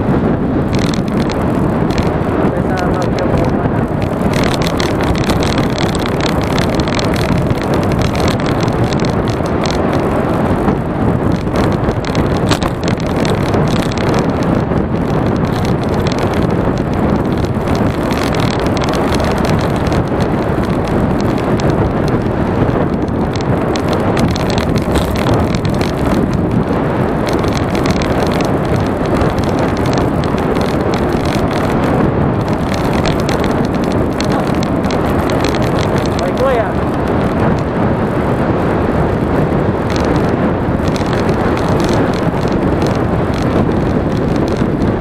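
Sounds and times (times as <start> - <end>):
road noise: 0.0 - 45.0
wind buffeting microphone: 0.0 - 45.0.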